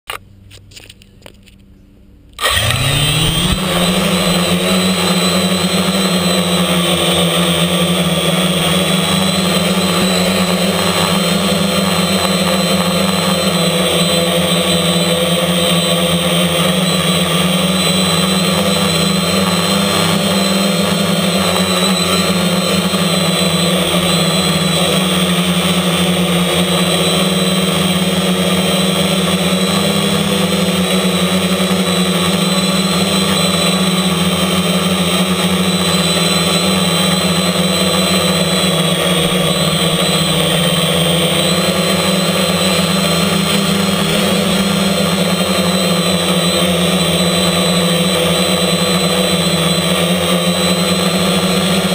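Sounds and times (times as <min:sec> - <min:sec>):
drone propellers whirring: 0:02.4 - 0:51.9.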